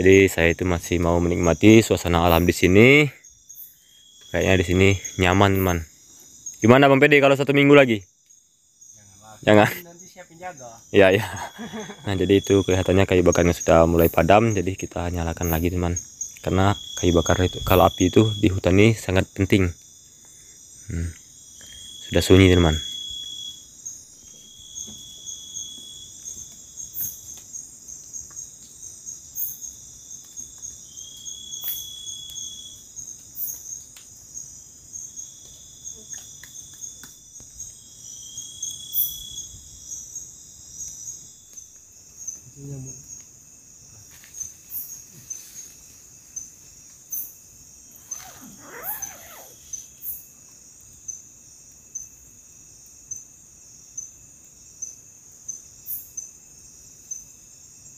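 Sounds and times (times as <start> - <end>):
crickets trilling: 0.0 - 57.9
insect repeated call: 0.0 - 57.9.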